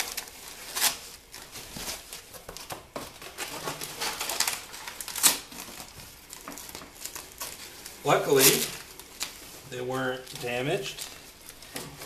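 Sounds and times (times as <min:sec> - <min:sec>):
packing paper and foam rustling: 0:00.0 - 0:12.0.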